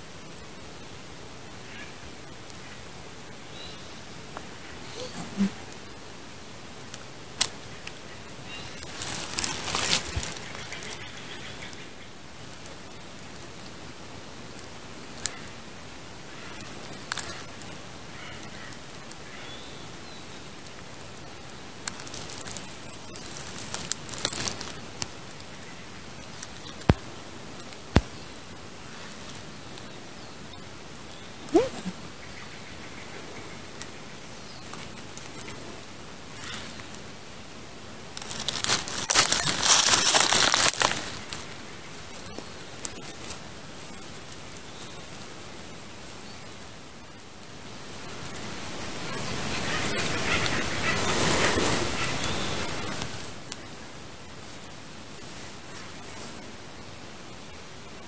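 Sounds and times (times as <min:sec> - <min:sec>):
steady hiss: 0:00.0 - 0:58.0
leaves and twigs rustling: 0:00.1 - 0:58.0.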